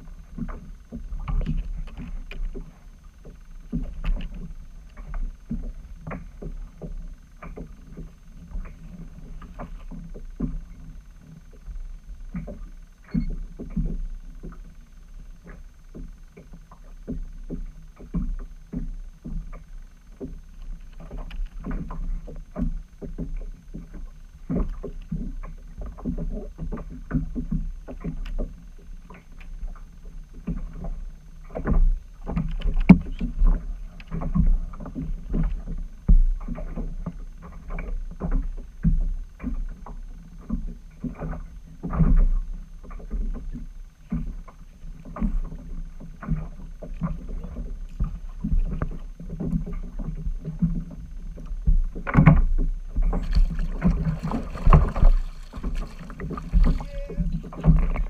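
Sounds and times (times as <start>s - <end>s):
waves slapping a plastic hull: 0.0s - 14.8s, 15.4s - 58.0s
low rumble of water: 0.0s - 58.0s.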